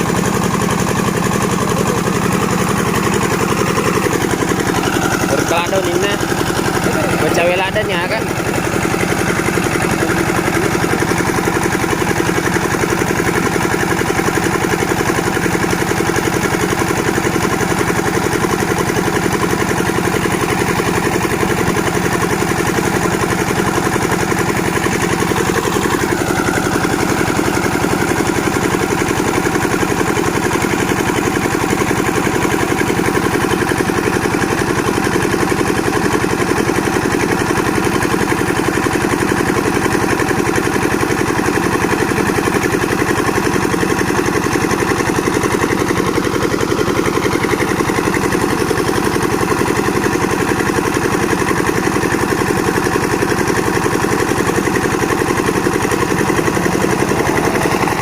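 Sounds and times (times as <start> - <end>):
engine-driven machine running: 0.0 - 58.0.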